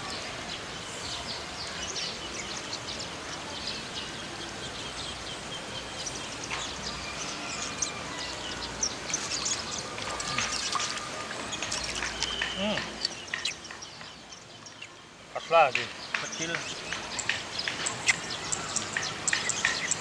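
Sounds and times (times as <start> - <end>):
outdoor background noise: 0.0 - 20.0
small birds chirping: 0.0 - 20.0.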